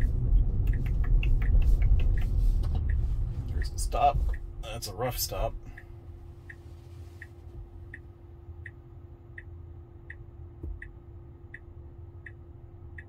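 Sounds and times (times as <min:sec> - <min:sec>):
low cabin hum: 0:00.0 - 0:13.0
turn signal ticking: 0:00.0 - 0:13.0.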